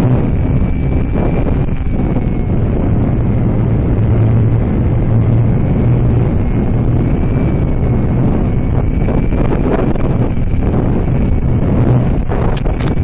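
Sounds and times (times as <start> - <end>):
motor and propeller droning: 0.0 - 13.0
wind rush on microphone: 0.0 - 13.0.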